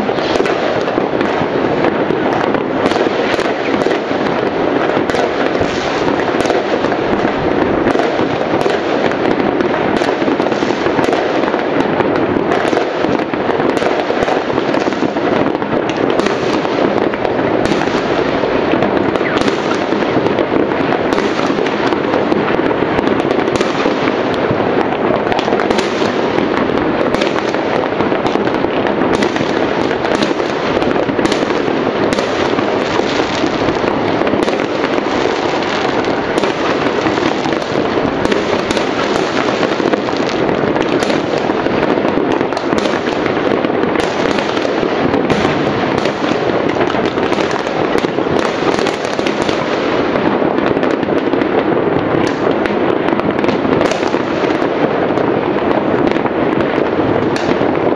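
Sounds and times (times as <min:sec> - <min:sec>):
distant fireworks bursts: 0:00.0 - 0:57.9
sharp firecracker bangs and crackles: 0:00.0 - 0:57.9.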